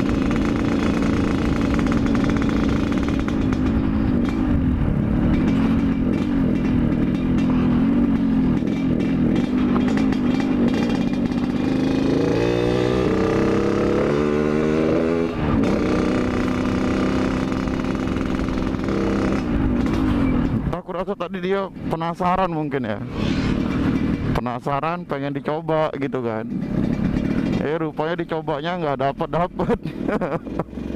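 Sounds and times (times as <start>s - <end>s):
two-stroke motorcycle engine running: 0.0s - 21.1s, 23.6s - 30.9s.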